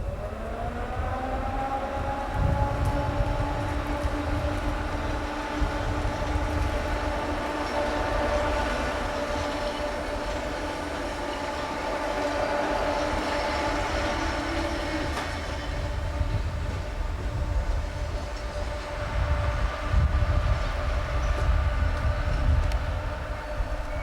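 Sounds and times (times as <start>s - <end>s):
held humming tones: 0.0s - 24.0s
locomotive rumbling: 0.0s - 24.0s.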